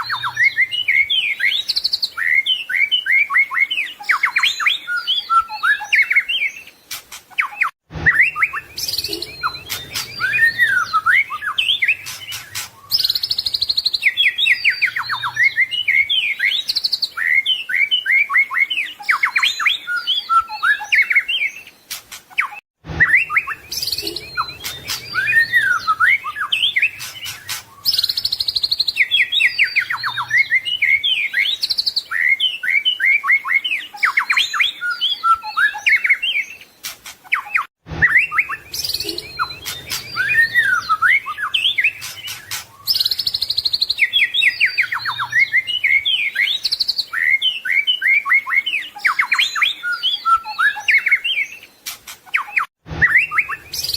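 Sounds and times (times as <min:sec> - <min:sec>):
bird singing whistles and trills: 0:00.0 - 0:53.9.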